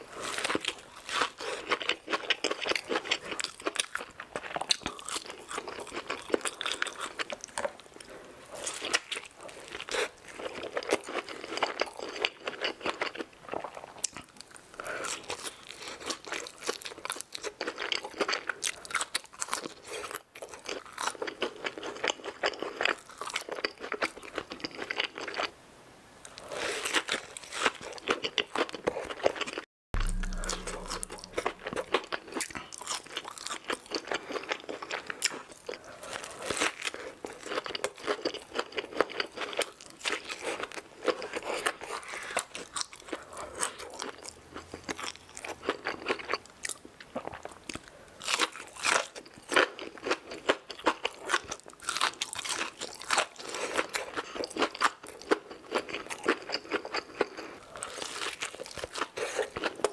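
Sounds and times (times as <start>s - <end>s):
chewing with wet mouth sounds: 0.0s - 25.5s, 26.2s - 59.9s.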